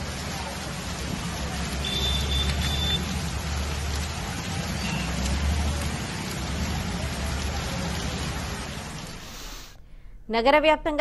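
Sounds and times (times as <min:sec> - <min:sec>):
traffic rumble: 0:00.0 - 0:09.6
heavy rain pouring: 0:00.0 - 0:09.8.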